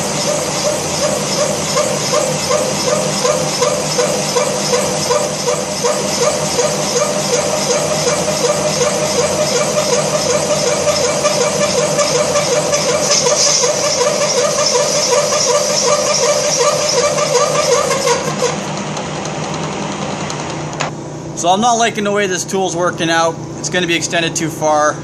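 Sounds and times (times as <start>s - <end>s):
boring machine running: 0.0s - 20.9s
wavering cutting whine: 0.0s - 20.9s.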